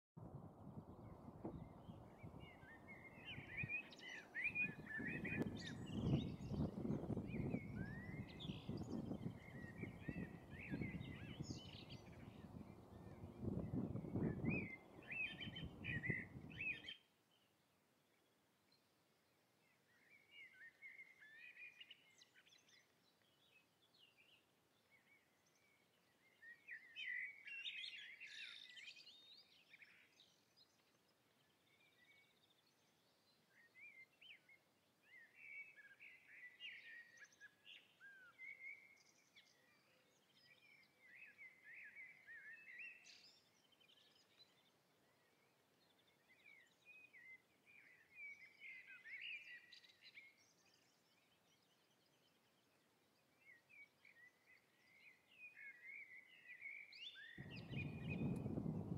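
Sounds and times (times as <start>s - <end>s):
faint songbird chirping: 0.6s - 58.9s.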